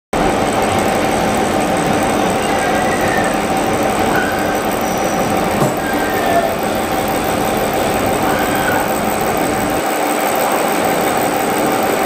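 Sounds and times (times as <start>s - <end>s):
gear-cutting machine whining drone: 0.2s - 12.0s.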